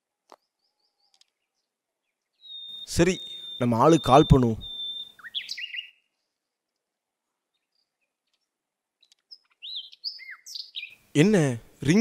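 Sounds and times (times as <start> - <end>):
small bird chirping: 0.2 - 11.1.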